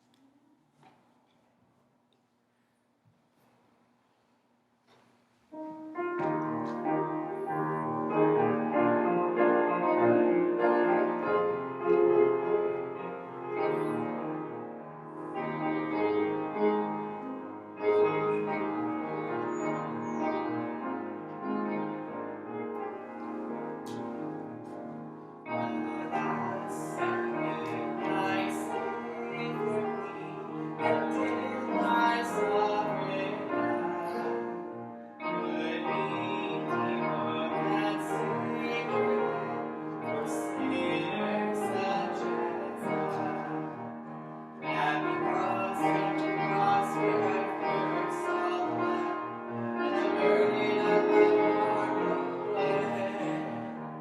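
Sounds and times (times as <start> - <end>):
piano music: 5.5 - 54.0.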